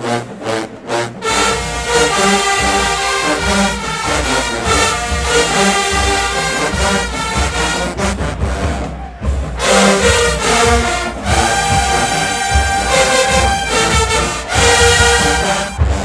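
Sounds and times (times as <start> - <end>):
marching band brass: 0.0 - 16.0
drums: 1.2 - 16.0.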